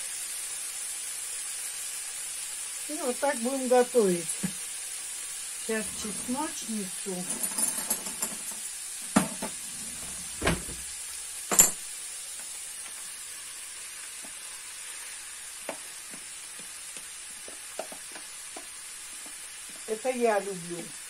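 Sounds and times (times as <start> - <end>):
meat sizzling in a frying pan: 0.0 - 21.0.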